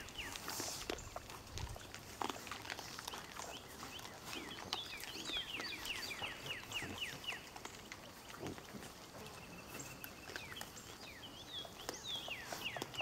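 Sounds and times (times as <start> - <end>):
pigs rooting on dry ground: 0.0 - 13.0.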